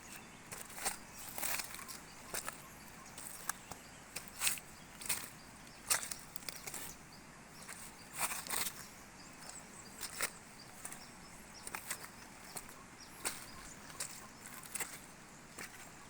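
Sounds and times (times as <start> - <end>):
crunching footsteps: 0.0 - 16.0.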